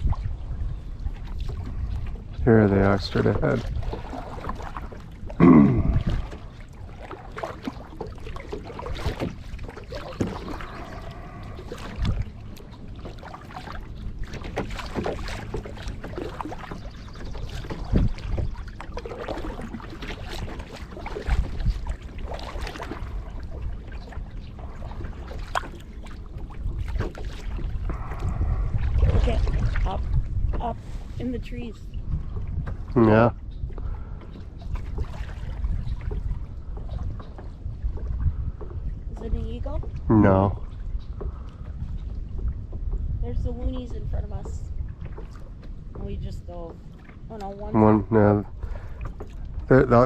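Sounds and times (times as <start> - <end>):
paddle splashing in water: 0.0 - 50.0.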